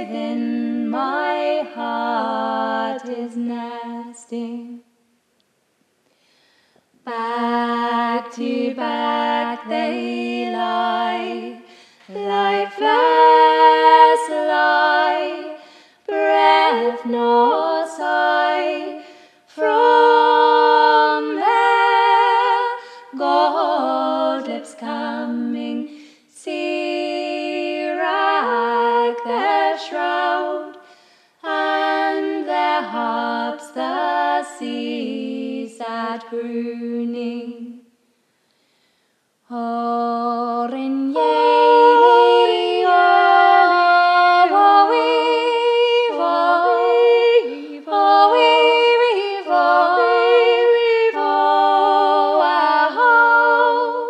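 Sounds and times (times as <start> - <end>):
women singing in harmony: 0.0 - 5.0, 7.0 - 37.9, 39.5 - 54.0.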